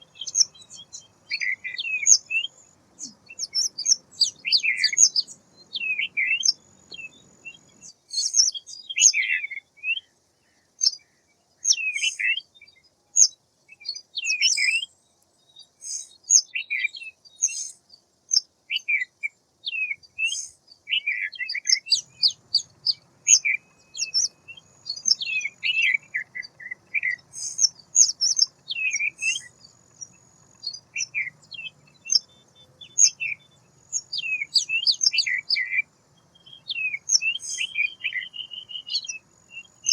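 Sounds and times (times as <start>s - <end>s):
small songbird chirping and twittering: 0.0s - 39.9s.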